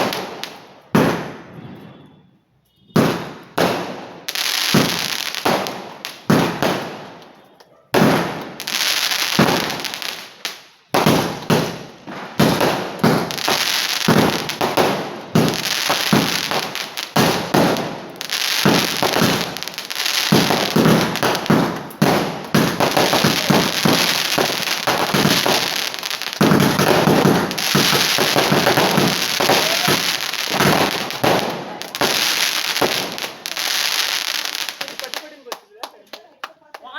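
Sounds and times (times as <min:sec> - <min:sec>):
fireworks launching and bursting: 0:00.0 - 0:02.1, 0:02.9 - 0:35.5.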